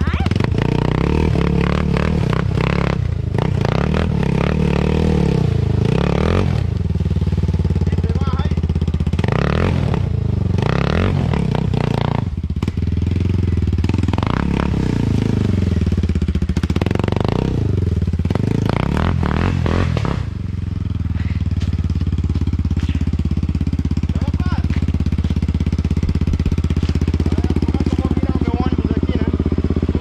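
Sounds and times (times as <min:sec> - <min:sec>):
motorbike engine chugging: 0:00.0 - 0:30.0.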